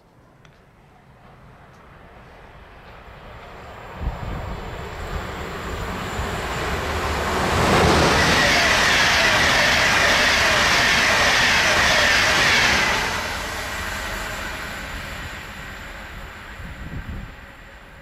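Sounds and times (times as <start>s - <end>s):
train passing at speed: 0.2s - 18.0s.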